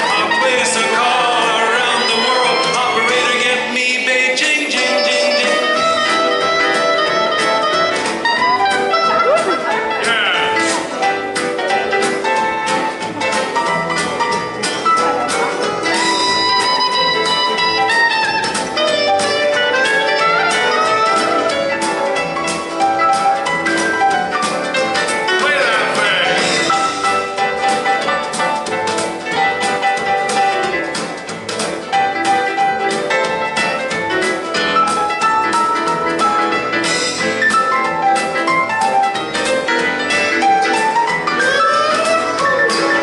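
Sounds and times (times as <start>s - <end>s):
instrumental music with beat: 0.0s - 43.0s.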